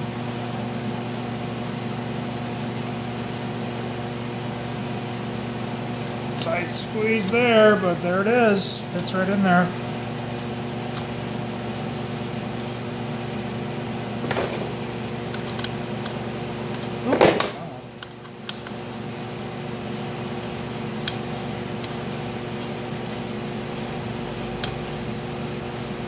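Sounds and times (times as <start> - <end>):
machine humming: 4.0 - 26.0.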